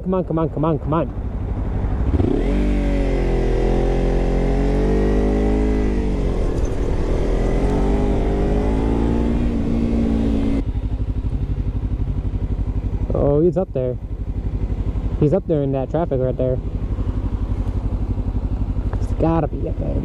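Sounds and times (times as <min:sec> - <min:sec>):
motorcycle engine accelerating: 0:00.1 - 0:20.0.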